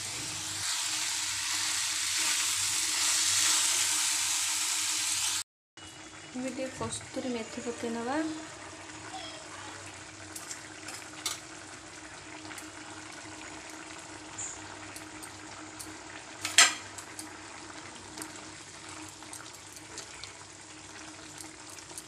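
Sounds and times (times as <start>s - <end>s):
curry bubbling and sizzling: 0.0s - 22.0s.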